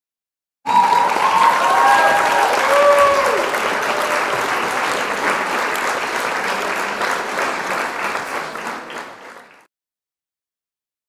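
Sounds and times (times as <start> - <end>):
many hands clapping: 0.7 - 9.7.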